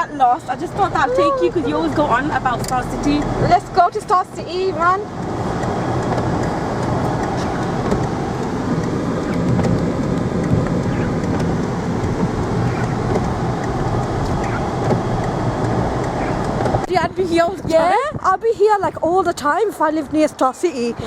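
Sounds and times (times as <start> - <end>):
car interior road and engine rumble: 0.0 - 21.0.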